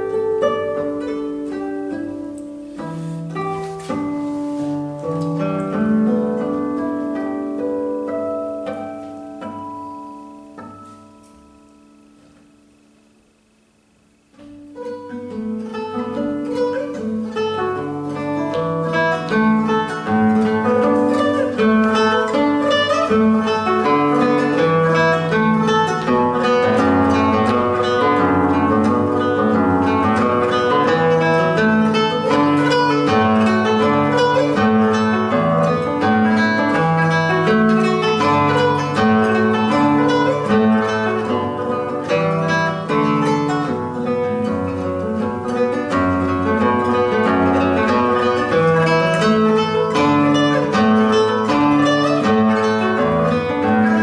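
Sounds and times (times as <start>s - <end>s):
classical guitar playing: 0.0s - 54.0s.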